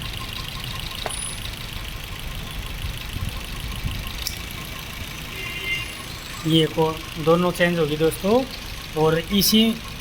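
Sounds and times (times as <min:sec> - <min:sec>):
car engine idling roughly: 0:00.0 - 0:10.0.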